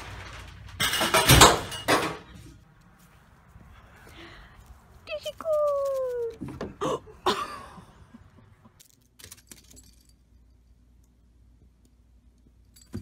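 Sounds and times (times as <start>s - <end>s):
quiet background hum: 1.0s - 13.0s.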